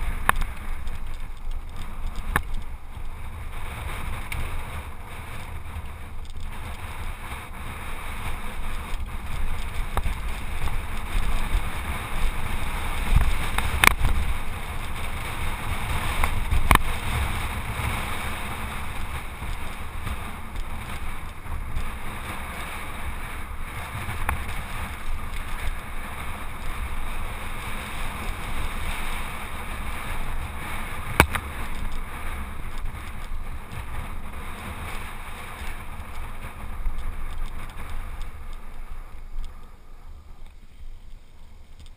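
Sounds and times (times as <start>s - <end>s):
rumble from the ground: 0.0s - 41.9s
wind on microphone: 0.0s - 41.9s.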